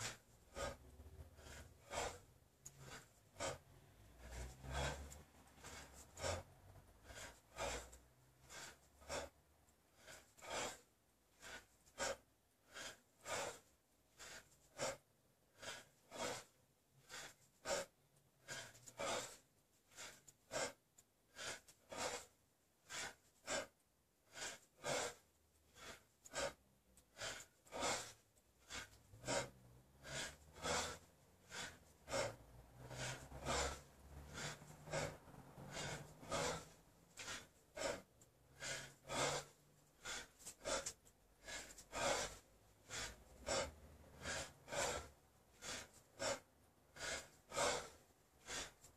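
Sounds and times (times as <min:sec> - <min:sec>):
man breathing forcefully: 0:00.0 - 0:48.9.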